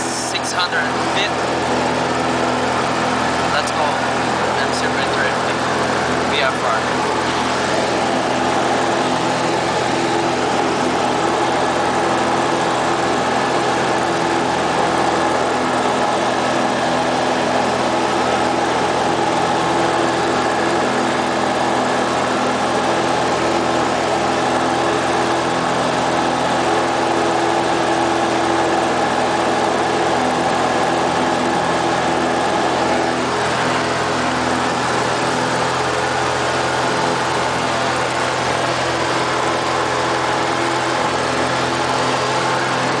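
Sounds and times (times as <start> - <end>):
propeller plane engine hum: 0.0 - 43.0.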